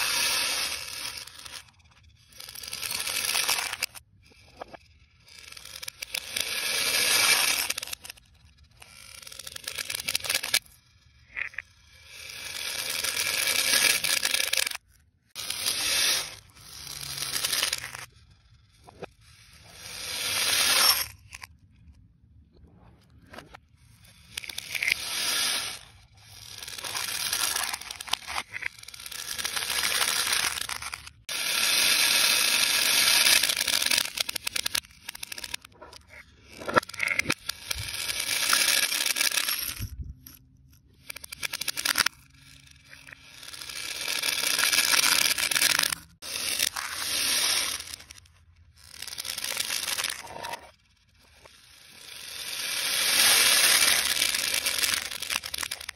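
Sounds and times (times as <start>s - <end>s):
reversed beads rattling in cups: 0.0s - 21.6s, 23.7s - 55.9s.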